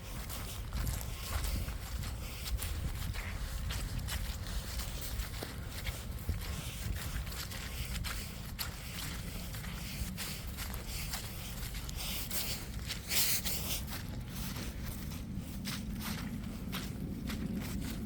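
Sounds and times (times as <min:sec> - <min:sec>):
footsteps outdoors: 0:00.0 - 0:18.0
low microphone rumble: 0:00.0 - 0:18.0.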